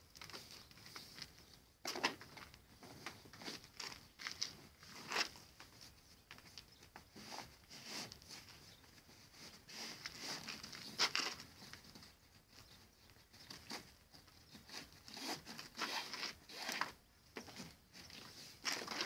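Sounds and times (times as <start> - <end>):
plastic tarpaulin rustling: 0.0 - 12.7, 13.4 - 19.0.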